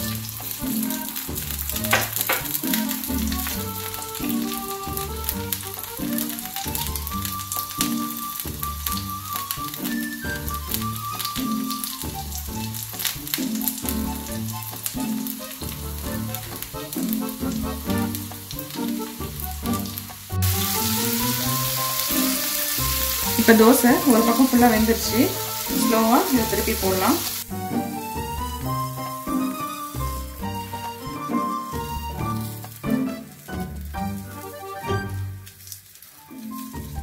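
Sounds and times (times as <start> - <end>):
background music with held notes: 0.0 - 37.0
oil sizzling on a griddle: 0.0 - 37.0.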